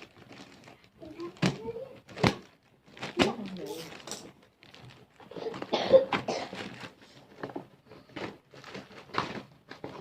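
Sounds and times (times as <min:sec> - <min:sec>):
packaging rustling and tearing: 0:00.0 - 0:10.0.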